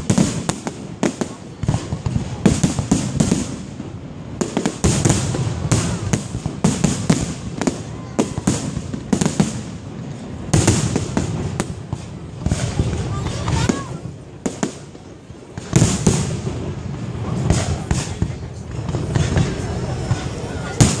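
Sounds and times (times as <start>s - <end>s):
fireworks bangs: 0.0s - 21.0s
fireworks crackle: 0.0s - 21.0s
rumble of fireworks barrage: 0.0s - 21.0s.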